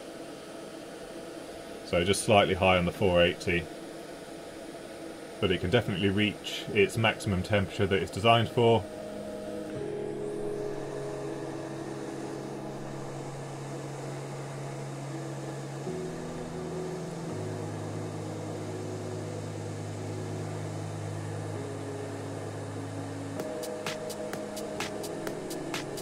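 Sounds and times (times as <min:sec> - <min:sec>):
low sustained chords music: 0:00.0 - 0:26.0.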